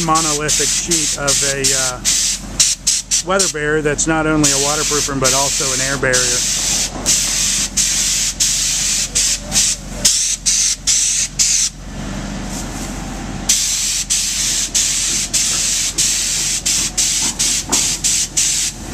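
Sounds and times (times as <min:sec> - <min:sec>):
spray gun hissing: 0:00.1 - 0:03.6, 0:04.4 - 0:11.7, 0:13.5 - 0:18.9.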